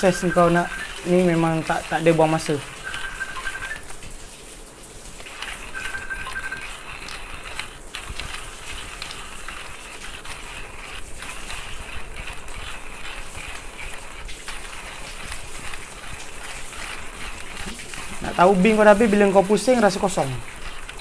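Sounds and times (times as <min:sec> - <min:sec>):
hand coffee grinder grinding beans: 0:00.0 - 0:04.2, 0:04.9 - 0:21.0.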